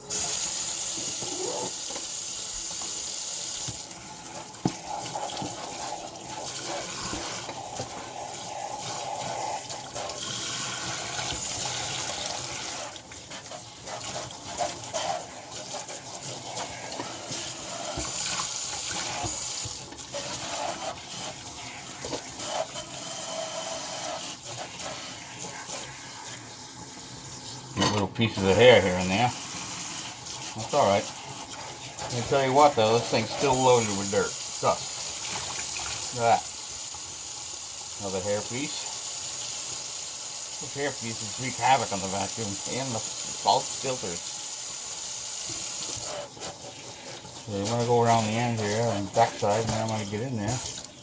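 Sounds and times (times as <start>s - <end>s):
tap water running into sink: 0.0s - 51.0s
water splashing over filter: 3.6s - 26.5s, 28.4s - 37.2s, 37.8s - 51.0s.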